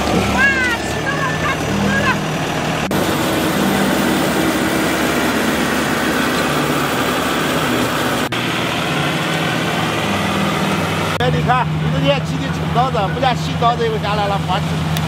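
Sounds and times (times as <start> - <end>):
engine drone: 0.0 - 15.0
loud machinery noise: 0.0 - 15.0.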